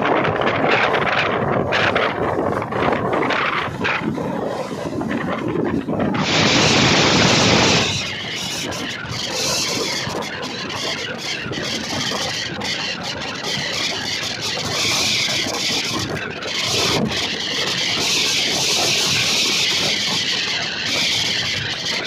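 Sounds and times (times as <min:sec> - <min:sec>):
train wheels rushing on track: 0:00.0 - 0:22.0.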